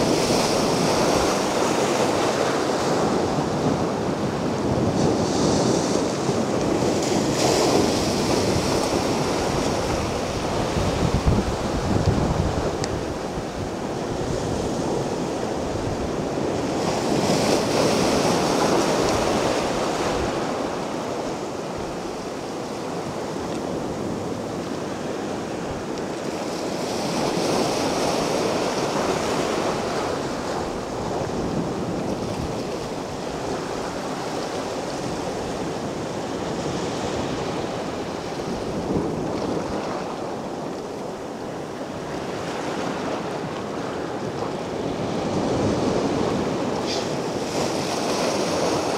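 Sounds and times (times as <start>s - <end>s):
waves breaking on a beach: 0.0s - 48.9s.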